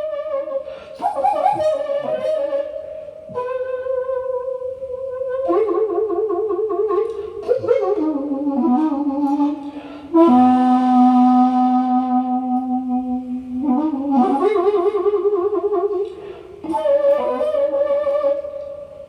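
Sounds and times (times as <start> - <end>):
bamboo flute melody: 0.0 - 19.0.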